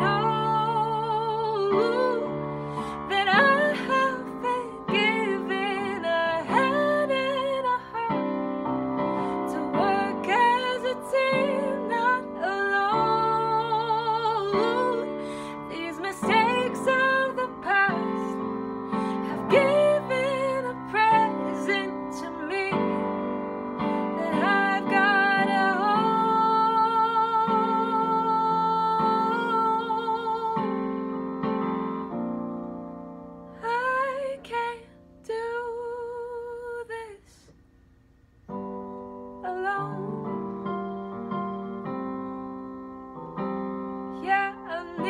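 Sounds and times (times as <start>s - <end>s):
woman singing a ballad: 0.0s - 32.4s, 33.5s - 37.6s, 38.5s - 41.9s, 43.4s - 45.0s
piano chords: 0.0s - 36.3s, 38.5s - 45.0s.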